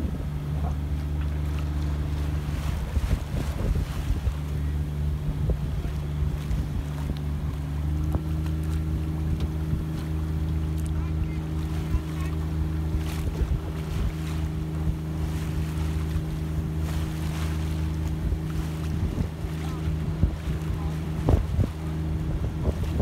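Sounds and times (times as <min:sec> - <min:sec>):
motorboat engine droning: 0:00.0 - 0:23.0
water rushing and splashing: 0:00.0 - 0:23.0
wind buffeting microphone: 0:00.0 - 0:23.0.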